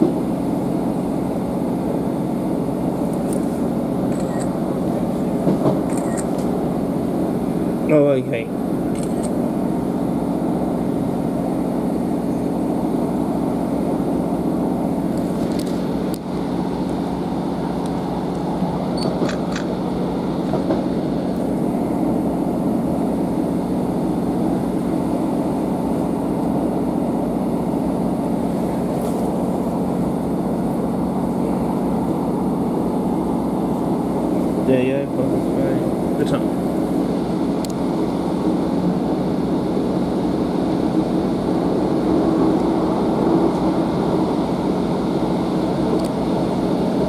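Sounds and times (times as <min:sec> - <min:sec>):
train diesel engine drone: 0:00.0 - 0:47.0.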